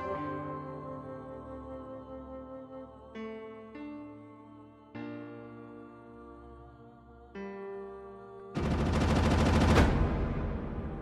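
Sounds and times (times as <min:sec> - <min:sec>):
slow held music chord: 0:00.0 - 0:08.9.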